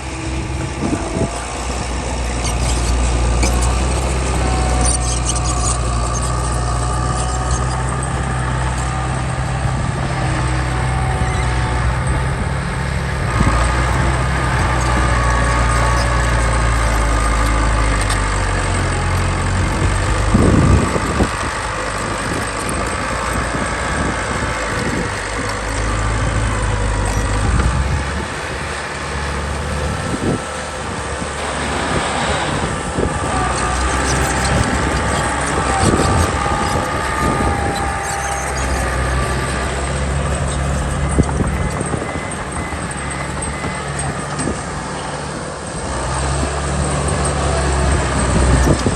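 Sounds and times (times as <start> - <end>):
diesel machinery engine droning: 0.0 - 48.9.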